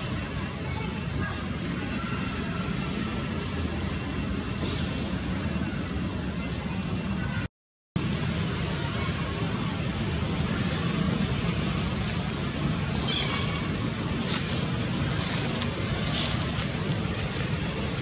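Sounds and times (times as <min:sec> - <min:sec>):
outdoor rumble and hiss: 0:00.0 - 0:18.0.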